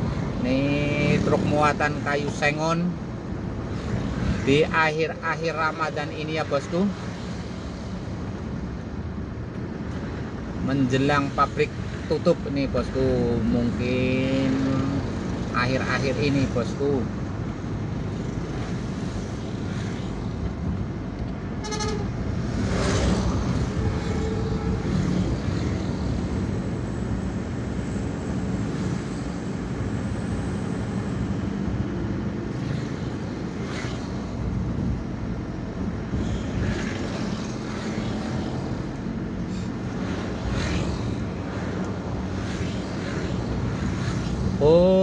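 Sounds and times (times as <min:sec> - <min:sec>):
car engine and road noise: 0:00.0 - 0:45.0
passing traffic: 0:00.0 - 0:45.0.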